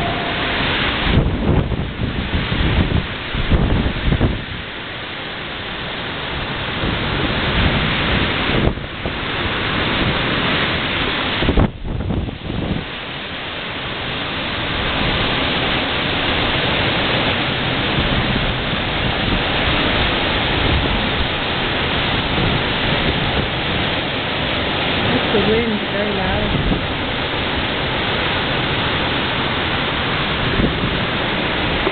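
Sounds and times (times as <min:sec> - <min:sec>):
wind buffeting the microphone: 0:00.0 - 0:05.0, 0:05.6 - 0:31.9
wind gusting loudly: 0:00.0 - 0:31.9.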